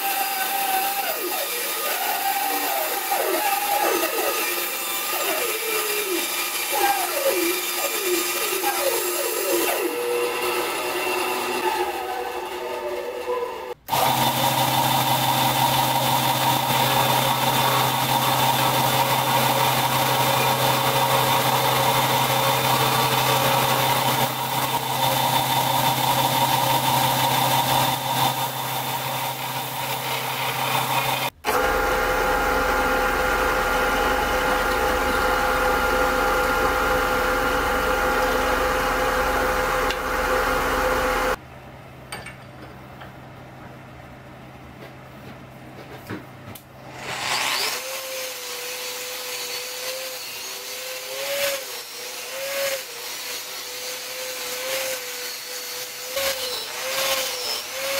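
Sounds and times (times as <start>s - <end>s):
sander sanding wood: 0.0s - 41.4s, 47.1s - 57.9s.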